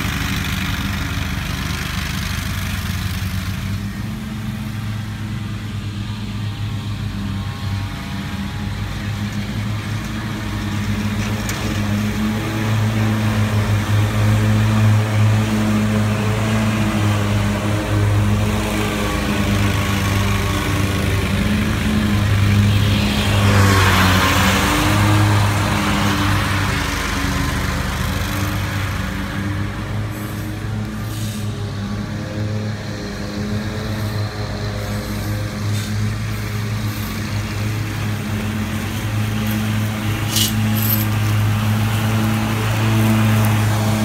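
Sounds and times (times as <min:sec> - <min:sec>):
mower cutting grass: 0:00.0 - 0:44.0
mower engine running: 0:00.0 - 0:44.0.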